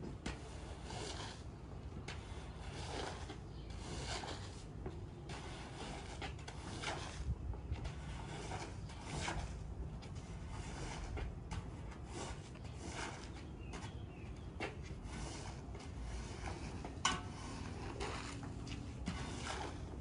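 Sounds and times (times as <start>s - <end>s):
squeegee scraping wet rug: 0.1s - 20.0s.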